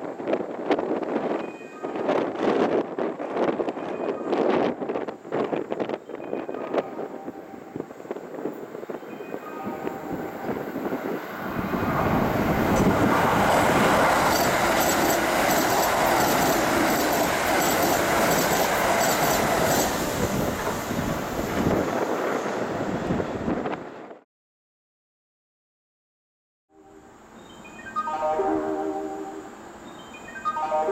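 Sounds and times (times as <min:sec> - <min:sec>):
electric train passing at speed: 0:00.0 - 0:24.2, 0:26.8 - 0:30.9.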